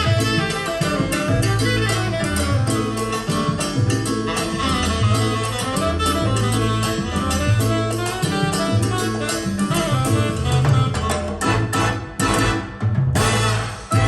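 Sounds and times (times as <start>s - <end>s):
latin jazz big band music: 0.0s - 14.0s.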